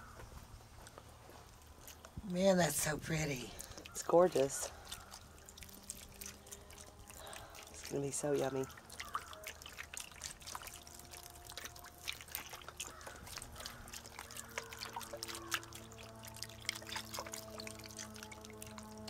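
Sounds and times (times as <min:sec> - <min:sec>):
broth pouring and splashing: 0:01.6 - 0:19.0.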